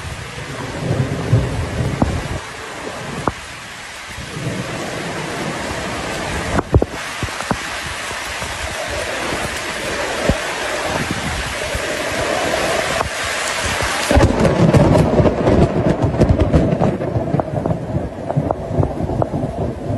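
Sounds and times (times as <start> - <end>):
deep thunder rumble: 0.0 - 3.4, 4.1 - 19.9
heavy rain hissing: 0.0 - 19.9.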